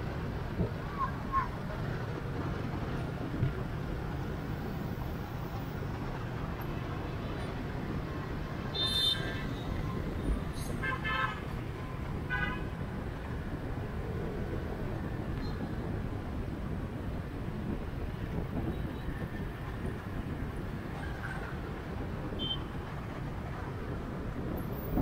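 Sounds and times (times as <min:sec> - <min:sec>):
motorbike traffic: 0:00.0 - 0:25.0.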